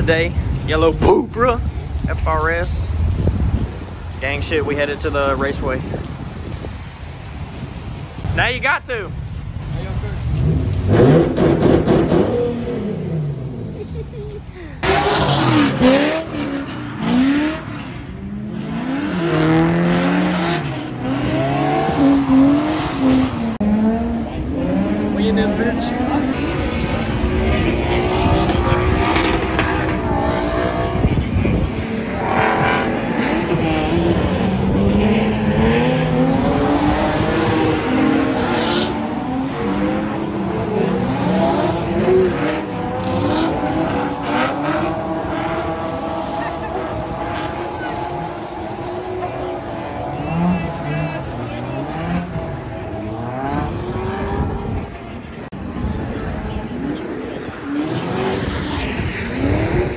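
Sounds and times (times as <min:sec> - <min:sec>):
car engine revving: 0:09.6 - 0:59.9.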